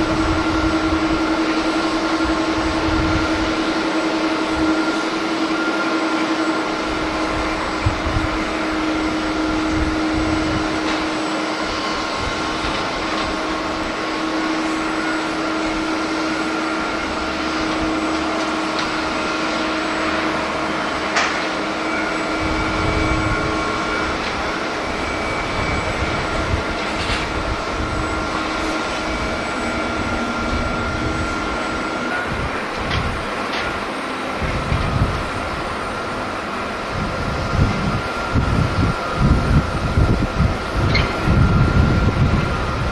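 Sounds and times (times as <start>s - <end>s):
wind buffeting microphone: 0.0s - 5.0s, 6.6s - 20.6s, 22.2s - 42.9s
jet engines running: 0.0s - 42.9s.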